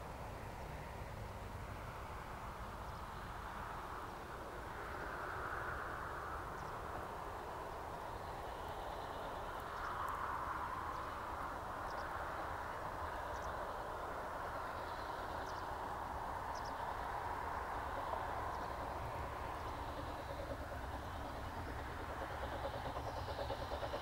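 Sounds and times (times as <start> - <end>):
distant steam locomotive exhaust: 4.6 - 24.0.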